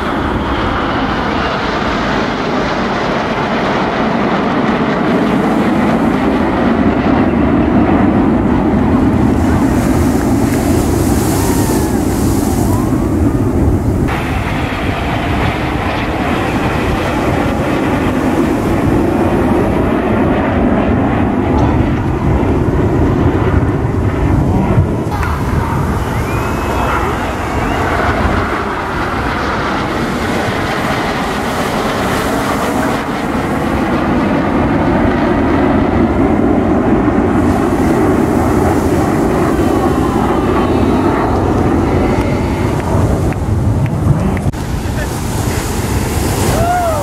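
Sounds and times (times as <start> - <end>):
jet aircraft roaring overhead: 0.0 - 47.0.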